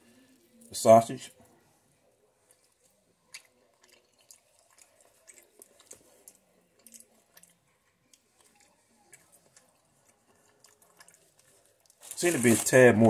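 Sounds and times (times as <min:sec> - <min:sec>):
faint chewing with mouth clicks: 0:00.0 - 0:12.2.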